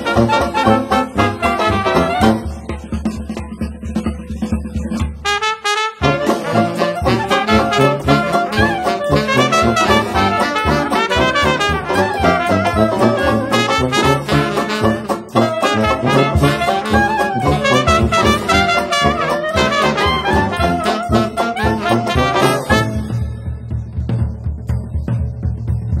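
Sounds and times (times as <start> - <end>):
jazz band playing: 0.0 - 25.3.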